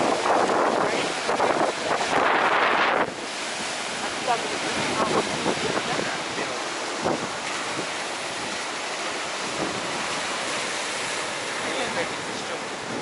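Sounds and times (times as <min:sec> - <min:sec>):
surf breaking on beach: 0:00.0 - 0:13.0
wind rushing over microphone: 0:00.0 - 0:13.0.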